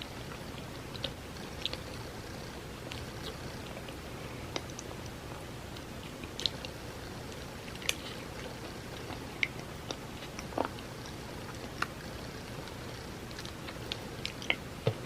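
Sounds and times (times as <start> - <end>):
low background hum: 0.0 - 15.0
wet chewing mouth clicks: 0.2 - 14.7.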